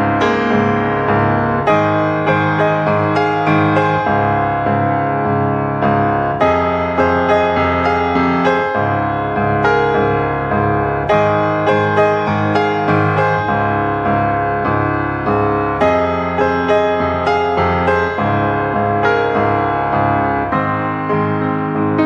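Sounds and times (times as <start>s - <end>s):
gentle piano notes: 0.0s - 22.0s.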